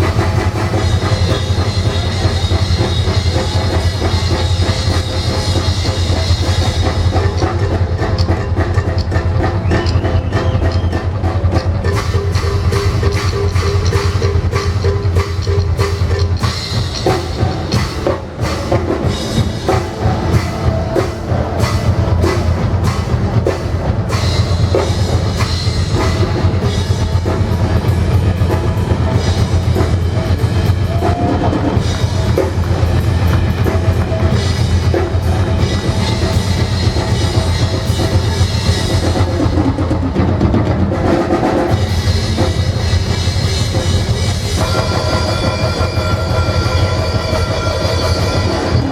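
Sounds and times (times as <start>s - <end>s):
percussion ensemble with drum kit: 0.0s - 48.9s
steady deep bass: 0.0s - 48.9s.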